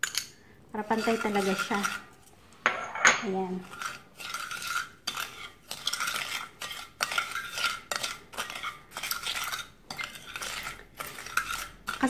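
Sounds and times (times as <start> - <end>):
spoon scraping glass bowl: 0.8 - 12.0.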